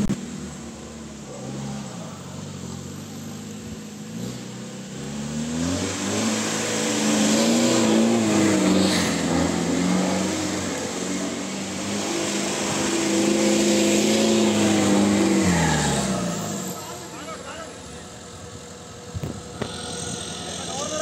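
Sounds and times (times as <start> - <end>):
vehicle engine revving: 0.0 - 21.0.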